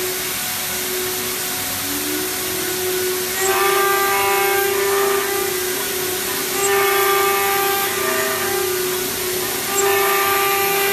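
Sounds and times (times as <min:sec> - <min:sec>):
cutting tool whine: 0:00.0 - 0:10.9
machine hiss with hum: 0:00.0 - 0:10.9.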